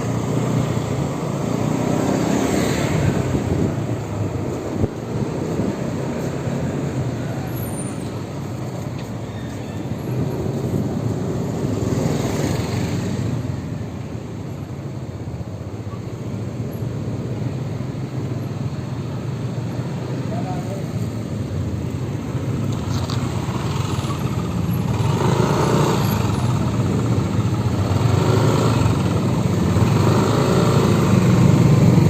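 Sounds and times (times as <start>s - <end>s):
vehicle road noise rumble: 0.0s - 32.0s.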